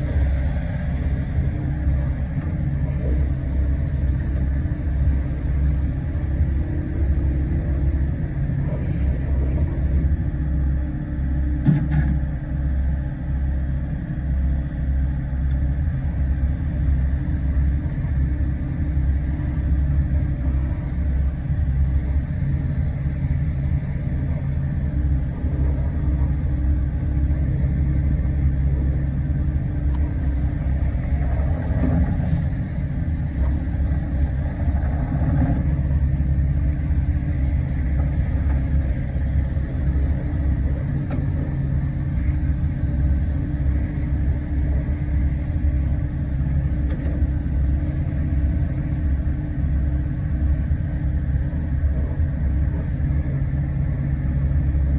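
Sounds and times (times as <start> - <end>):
excavator diesel engine rumbling: 0.0 - 54.9.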